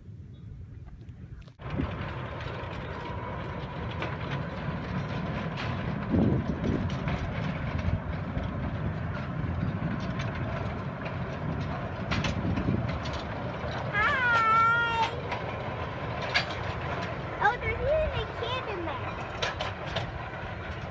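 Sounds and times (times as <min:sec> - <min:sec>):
train rumbling on track: 0:01.6 - 0:20.9.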